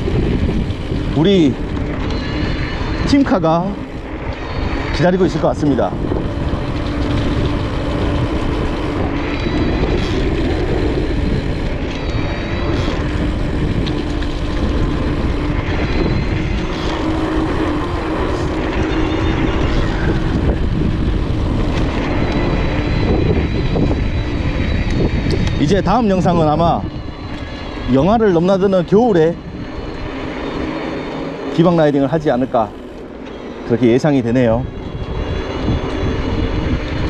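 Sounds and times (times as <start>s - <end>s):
steady motor hum: 0.0s - 37.0s
tyres on trail: 0.0s - 37.0s
wind rushing on microphone: 0.0s - 37.0s.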